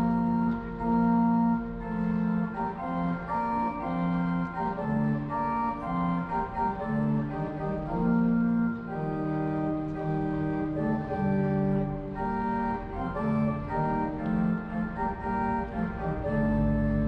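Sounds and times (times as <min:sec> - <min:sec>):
slow organ music: 0:00.0 - 0:17.0.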